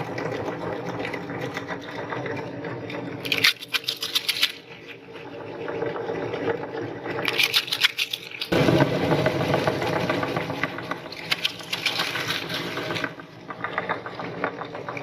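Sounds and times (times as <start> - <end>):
electric meat grinder grinding: 0.0 - 15.0.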